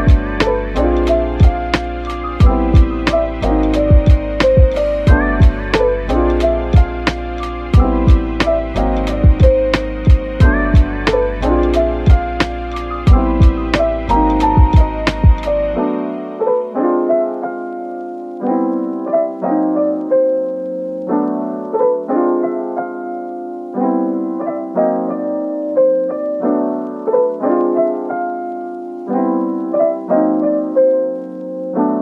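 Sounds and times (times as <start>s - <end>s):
gentle piano melody: 0.0s - 32.0s.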